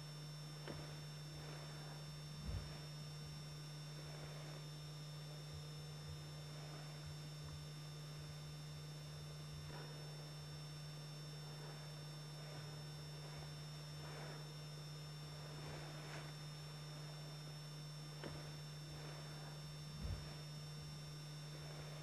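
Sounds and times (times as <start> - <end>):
faint high whines: 0.0 - 22.0
low electrical hum: 0.0 - 22.0
faint soft rustles: 0.3 - 22.0.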